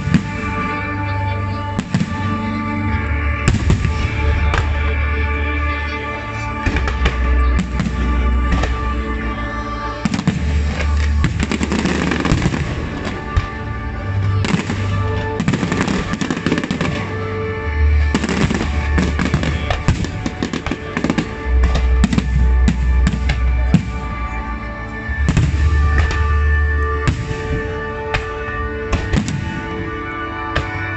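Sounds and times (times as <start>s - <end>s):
fireworks bursting and crackling: 0.0s - 30.9s
music with sustained bass notes: 0.0s - 30.9s.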